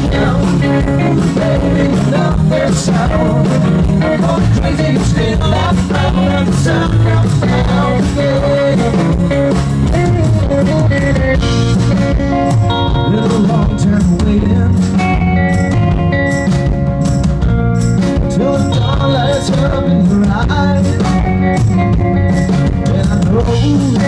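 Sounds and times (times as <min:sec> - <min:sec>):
electric guitar: 0:00.0 - 0:24.0
live rock band playing: 0:00.0 - 0:24.0.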